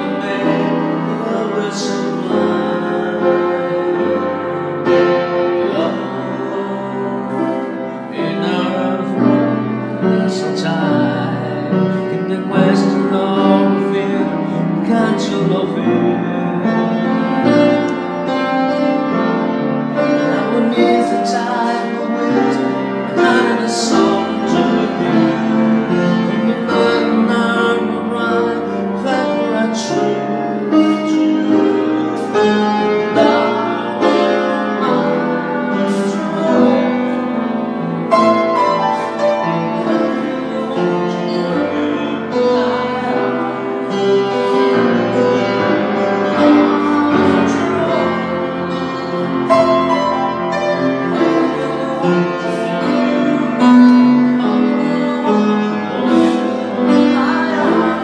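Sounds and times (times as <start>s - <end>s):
solo piano playing: 0.0s - 58.0s.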